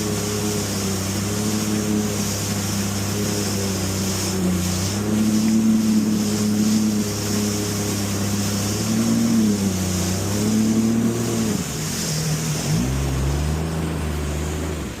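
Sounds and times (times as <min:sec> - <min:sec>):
jet ski engine running: 0:00.0 - 0:15.0
steady high hiss: 0:00.0 - 0:15.0.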